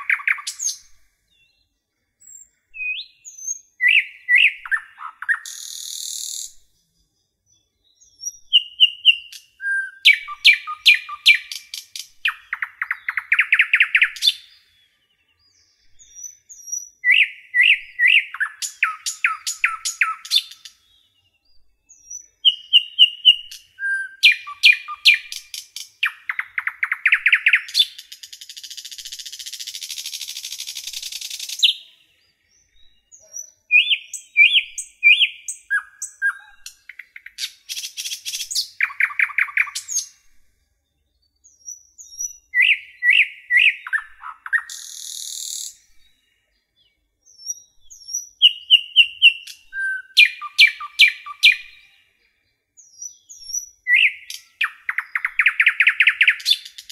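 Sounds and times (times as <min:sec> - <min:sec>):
bird chirping and trilling: 0:00.0 - 0:06.9, 0:07.5 - 0:40.4, 0:41.1 - 0:52.1, 0:52.8 - 0:56.9.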